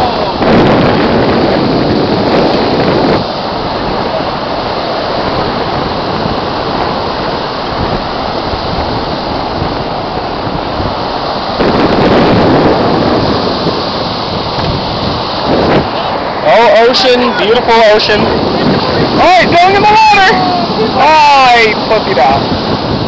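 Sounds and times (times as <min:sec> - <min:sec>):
ocean surf washing: 0:00.0 - 0:23.0
wind blowing across microphone: 0:00.0 - 0:23.0.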